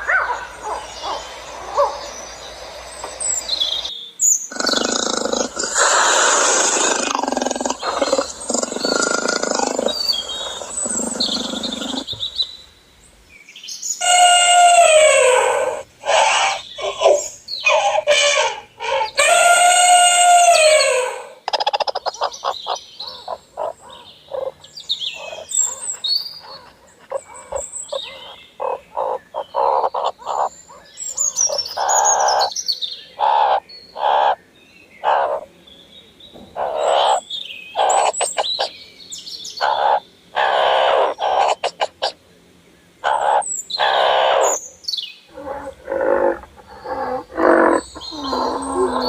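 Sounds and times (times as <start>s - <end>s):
birds calling: 0.0s - 49.0s.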